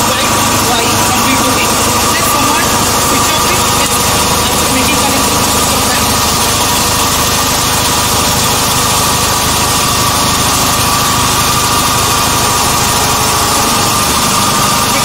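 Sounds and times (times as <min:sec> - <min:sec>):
high whine: 0:00.0 - 0:15.0
machine hum: 0:00.0 - 0:15.0.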